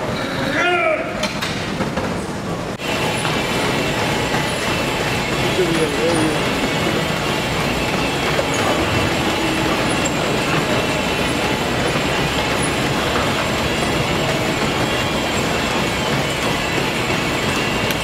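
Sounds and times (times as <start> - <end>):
cardio machines whirring: 0.0 - 18.0.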